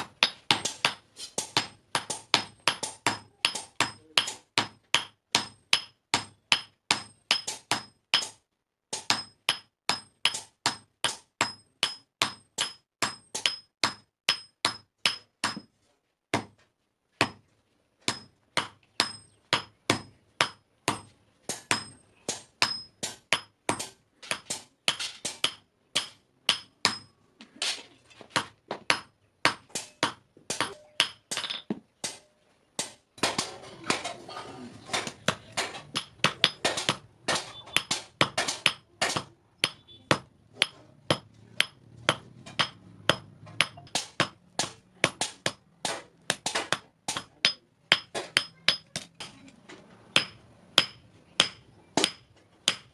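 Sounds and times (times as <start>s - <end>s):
hammer striking metal on anvil: 0.1s - 15.7s, 18.1s - 27.2s, 28.9s - 34.1s, 34.9s - 49.3s, 50.2s - 52.9s.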